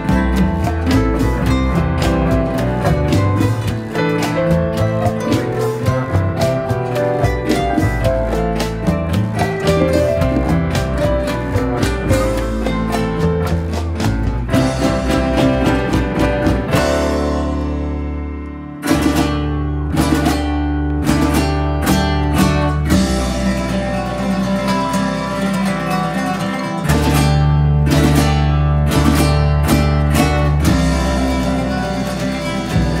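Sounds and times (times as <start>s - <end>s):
dance music with plucked guitar: 0.0s - 33.0s.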